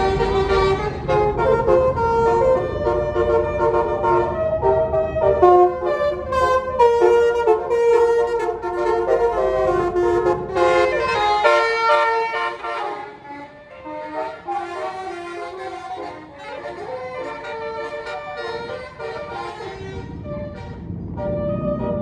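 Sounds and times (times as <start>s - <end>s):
bus engine running: 0.0s - 22.0s
bus horn playing a melody: 0.0s - 22.0s.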